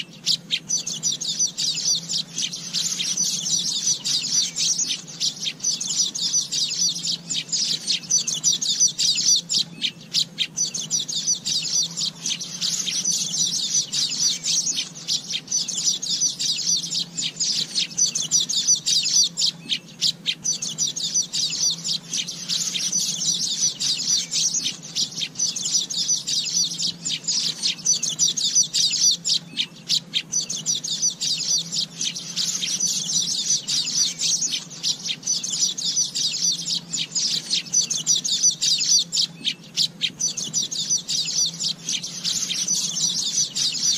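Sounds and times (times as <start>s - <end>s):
birds twittering: 0.0s - 43.9s
faint low hum: 0.0s - 43.9s.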